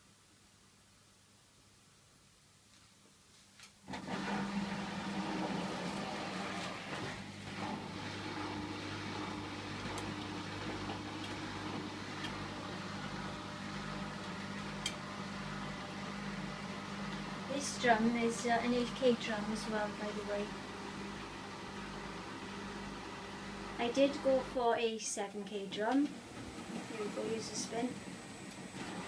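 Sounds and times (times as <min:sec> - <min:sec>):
washing machine humming: 0:03.8 - 0:29.0.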